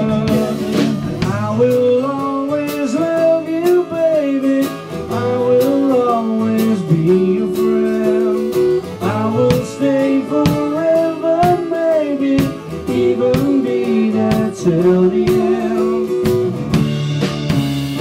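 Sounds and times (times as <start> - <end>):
lead vocal singing: 0.0 - 16.7
acoustic guitars: 0.0 - 18.0
drum kit: 0.0 - 18.0.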